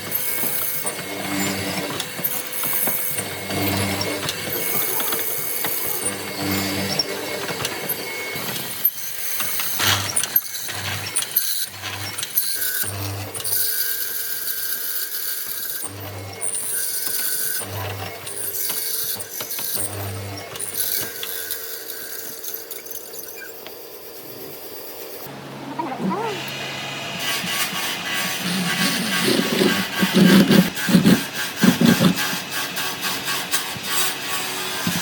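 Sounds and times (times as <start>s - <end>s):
high whir of tool: 0.0s - 35.0s.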